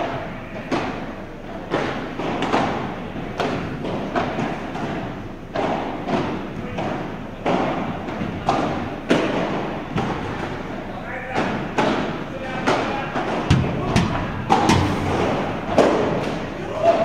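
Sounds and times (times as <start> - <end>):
ball bouncing on court: 1.7 - 10.6, 11.3 - 16.4
padel ball knocks echoing: 1.7 - 10.7, 11.3 - 16.5.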